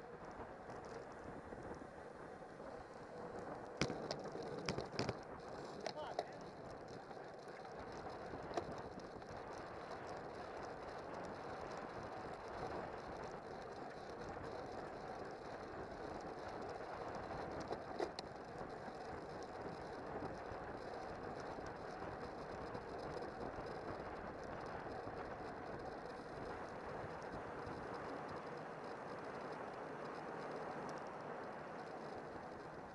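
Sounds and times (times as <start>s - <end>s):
tyres on asphalt: 0.0s - 32.9s
bicycle clicks: 2.6s - 32.9s.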